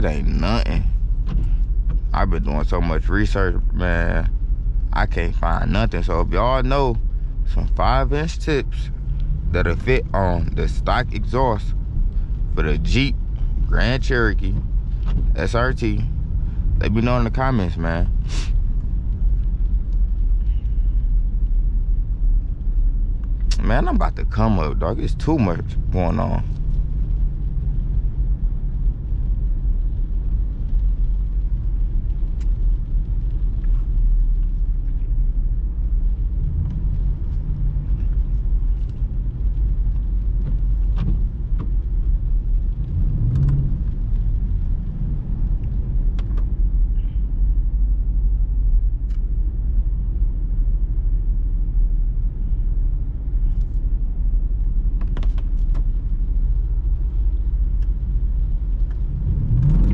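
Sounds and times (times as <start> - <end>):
low exhaust drone: 0.0 - 59.9
road noise: 0.0 - 59.9.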